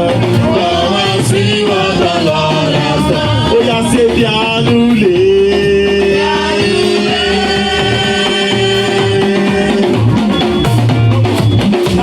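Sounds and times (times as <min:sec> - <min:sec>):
people singing: 0:00.0 - 0:10.7
band with guitar and drums: 0:00.0 - 0:12.0.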